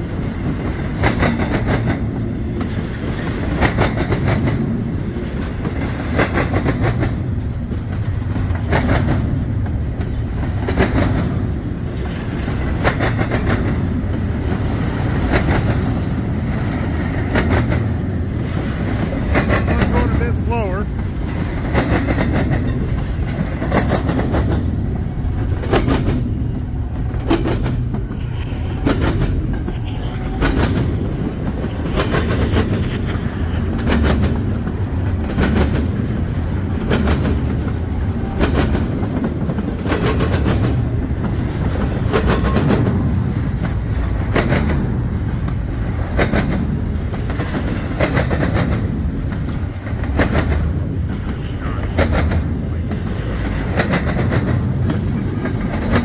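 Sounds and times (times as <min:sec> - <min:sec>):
freight train rumble: 0:00.0 - 0:56.0
wheels clacking over rail joints: 0:00.0 - 0:56.0.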